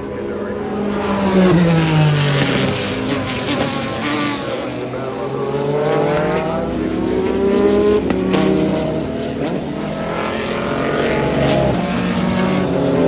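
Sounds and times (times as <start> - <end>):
race cars passing: 0.0 - 13.0.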